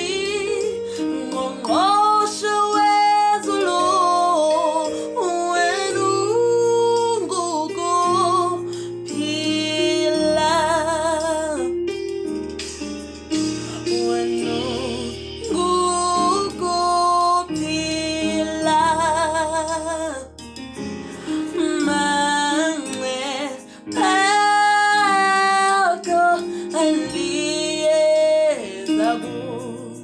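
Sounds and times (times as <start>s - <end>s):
woman singing gospel song: 0.0s - 11.8s, 13.6s - 20.3s, 21.3s - 30.0s
soft instrumental backing: 0.0s - 30.0s.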